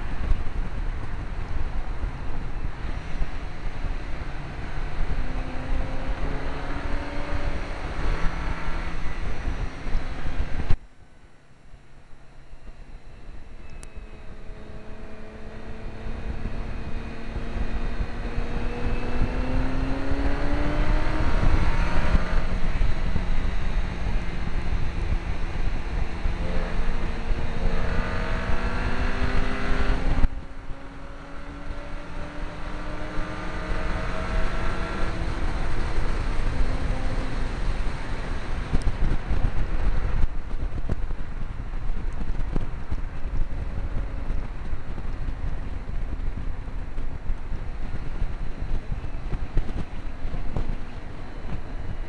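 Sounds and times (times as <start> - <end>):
car engine accelerating hard: 0.0 - 10.8, 13.2 - 52.0
road rush: 0.0 - 52.0
wind noise: 0.0 - 52.0.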